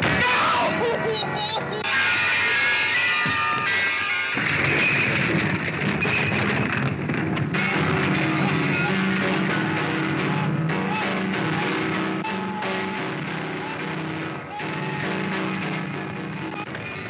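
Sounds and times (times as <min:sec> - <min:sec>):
music with held instrument notes: 0:00.0 - 0:17.0.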